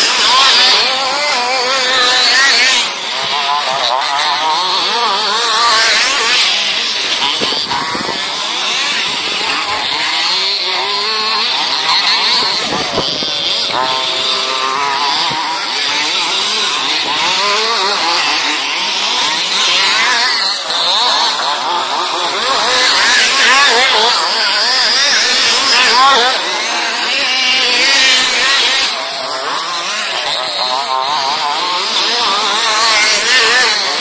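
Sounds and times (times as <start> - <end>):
two-stroke rc buggy engines buzzing: 0.0 - 34.0.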